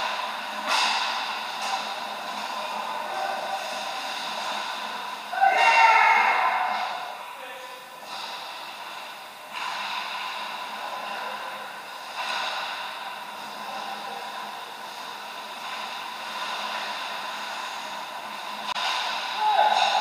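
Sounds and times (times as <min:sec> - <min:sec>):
ice rink noisy hiss: 0:00.0 - 0:20.0.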